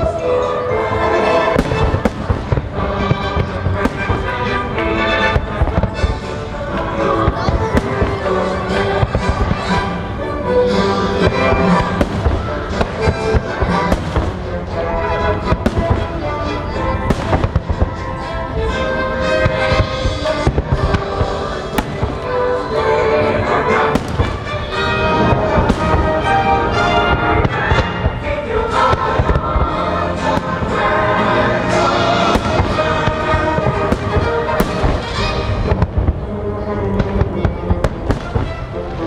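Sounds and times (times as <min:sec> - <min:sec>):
loud music: 0:00.0 - 0:39.0
fireworks bursting: 0:00.9 - 0:39.0.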